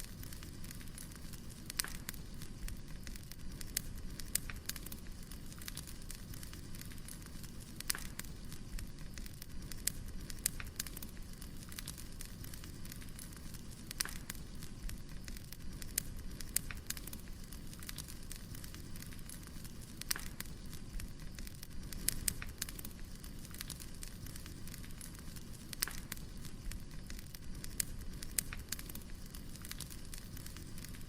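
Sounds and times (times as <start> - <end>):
fire crackles and pops: 0.0 - 31.0
low rumble of flames: 0.0 - 31.0.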